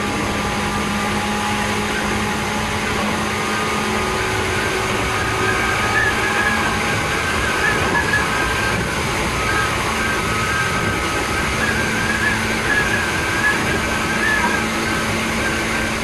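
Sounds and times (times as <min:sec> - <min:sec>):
wavering high whine: 0:00.0 - 0:16.0
wheels rumbling on rail: 0:00.0 - 0:16.0.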